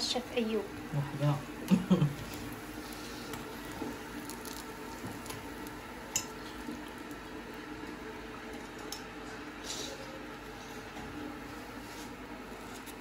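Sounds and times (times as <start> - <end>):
dough frying in hot oil: 0.0 - 13.0.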